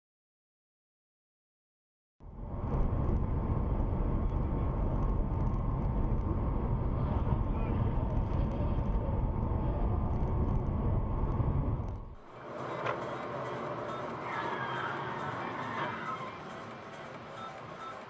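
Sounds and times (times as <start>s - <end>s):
car engine and road rumble: 2.2s - 18.0s.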